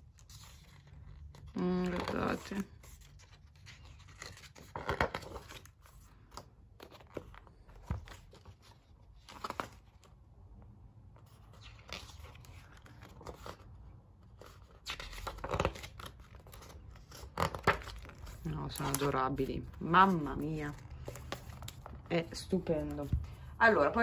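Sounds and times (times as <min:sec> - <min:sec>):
book pages turning: 0:00.0 - 0:23.6.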